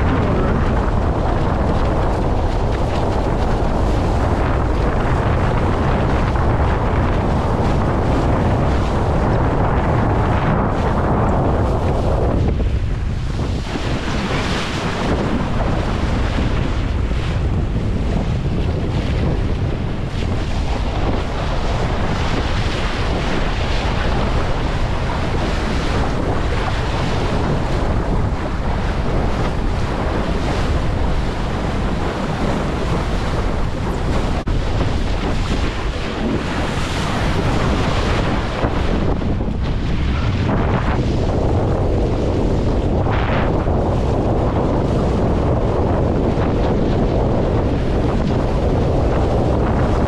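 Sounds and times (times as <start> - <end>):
choppy water splashing: 0.0 - 50.0
wind buffeting microphone: 0.0 - 50.0.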